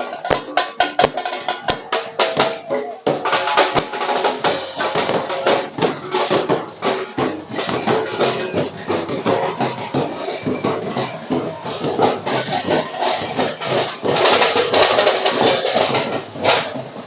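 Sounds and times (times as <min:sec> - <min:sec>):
pitched instruments: 0:00.0 - 0:16.5
drums and percussion: 0:00.0 - 0:17.0.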